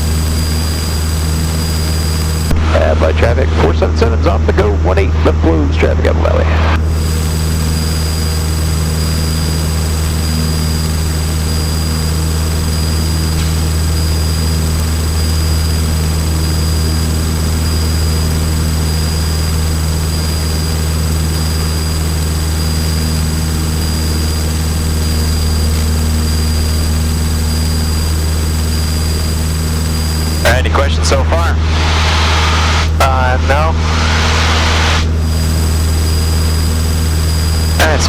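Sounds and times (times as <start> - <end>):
small plane engine droning: 0.0 - 38.0.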